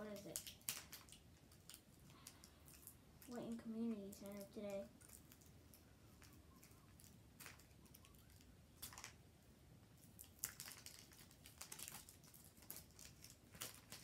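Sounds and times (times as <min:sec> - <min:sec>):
plastic strip crinkling: 0:00.0 - 0:09.2, 0:10.0 - 0:14.0.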